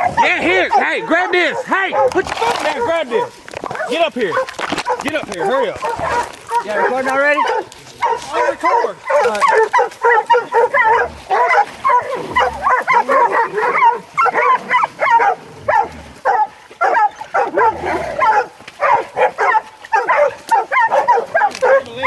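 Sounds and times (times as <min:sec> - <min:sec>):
dogs barking rapidly: 0:00.0 - 0:22.0.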